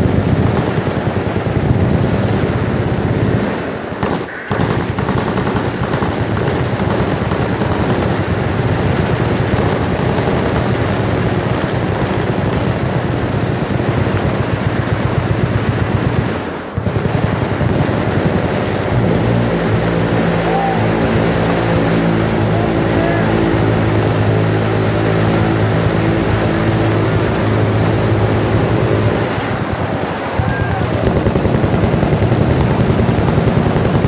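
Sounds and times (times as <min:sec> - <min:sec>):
automatic machine-gun fire: 0:00.0 - 0:34.0
continuous buzzing drone: 0:00.0 - 0:34.0.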